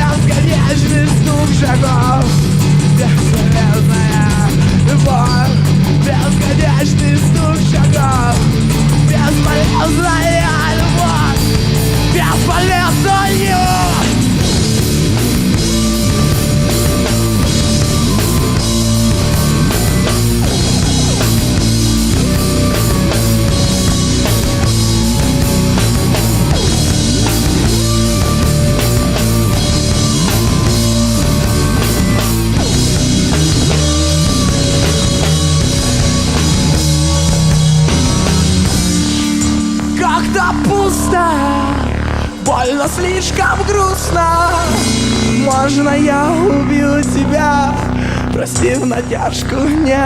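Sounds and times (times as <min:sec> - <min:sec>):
drum kit with crashing cymbals: 0:00.0 - 0:41.7
distorted electric guitars: 0:00.0 - 0:50.0
person singing: 0:00.0 - 0:50.0.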